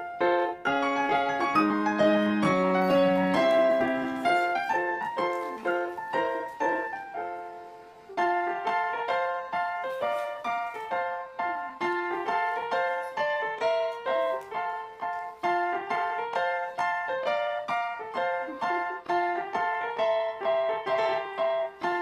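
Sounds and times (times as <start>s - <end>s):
light background melody: 0.0s - 22.0s.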